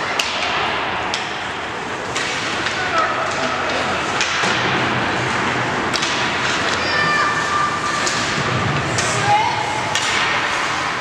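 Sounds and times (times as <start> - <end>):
crowd voices din: 0.0 - 11.0
hockey sticks clacking puck: 0.0 - 11.0.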